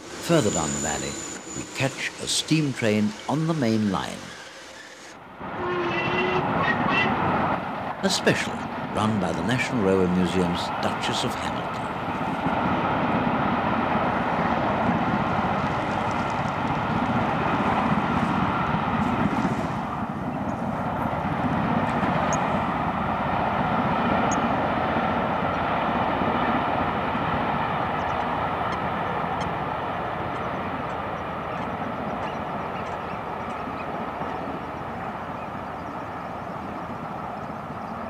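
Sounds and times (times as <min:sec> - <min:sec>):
steam locomotive roar: 0:00.0 - 0:38.0.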